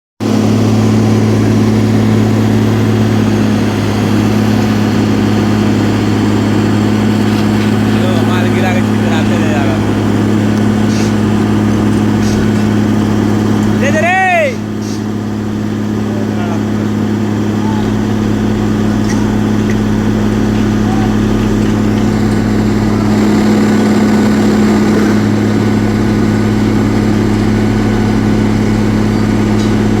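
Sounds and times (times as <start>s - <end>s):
pump engine humming: 0.2s - 30.0s.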